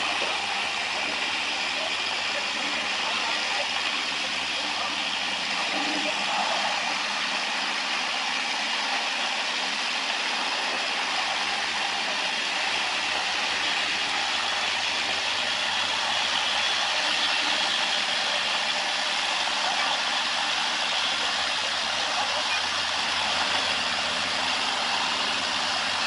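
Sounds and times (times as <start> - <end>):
construction vehicle engine hissing: 0.0 - 26.0.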